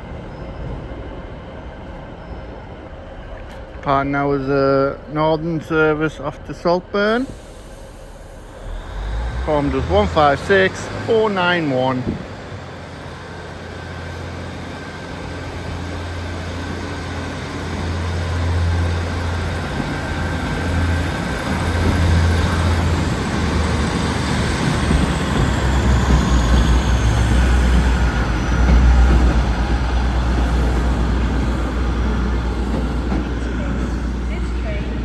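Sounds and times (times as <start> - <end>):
diesel train engine throbbing: 0.0 - 35.0.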